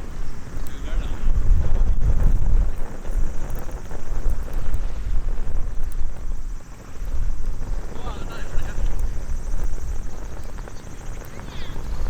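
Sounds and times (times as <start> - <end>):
faint campfire crackles: 0.0 - 12.0
wind buffeting microphone: 0.0 - 12.0.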